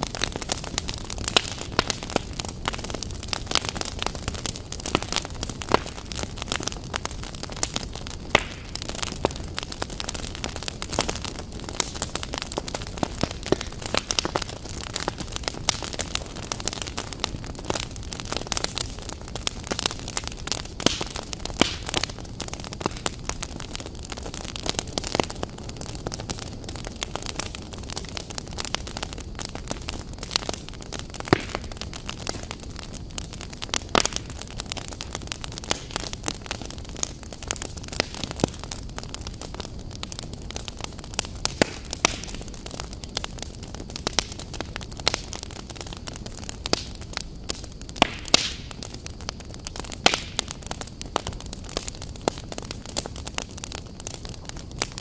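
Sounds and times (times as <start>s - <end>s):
flames roaring low: 0.0s - 55.0s
logs crackling and popping: 0.0s - 55.0s.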